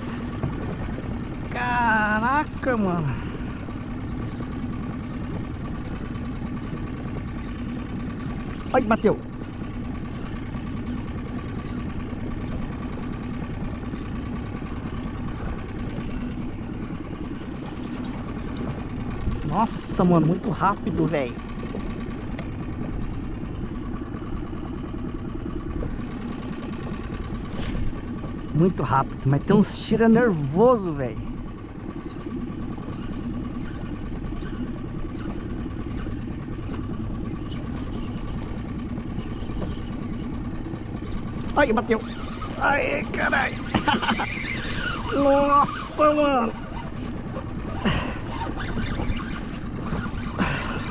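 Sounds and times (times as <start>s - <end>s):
boat engine idling: 0.0s - 50.9s.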